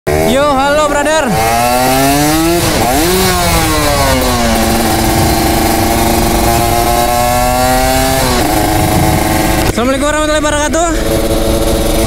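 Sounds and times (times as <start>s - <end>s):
motorcycle engine revving: 0.1s - 12.0s.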